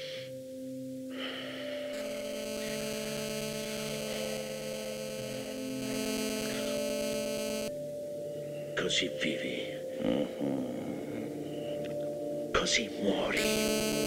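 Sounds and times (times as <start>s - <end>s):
tense droning film score: 0.3s - 14.0s.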